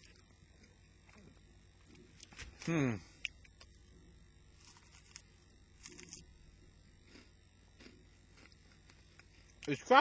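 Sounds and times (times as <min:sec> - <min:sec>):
rice cake crunching: 0:00.0 - 0:09.8.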